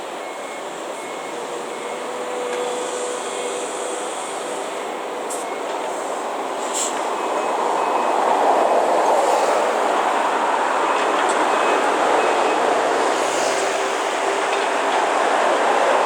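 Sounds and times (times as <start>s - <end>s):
heavy construction machinery rumbling: 0.0s - 16.0s.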